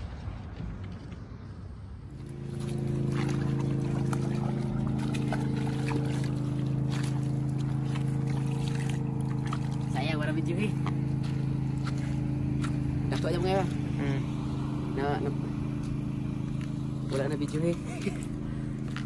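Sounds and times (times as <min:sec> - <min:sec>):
engine hum: 0:00.0 - 0:19.0
fish splashing in shallow water: 0:02.1 - 0:19.0.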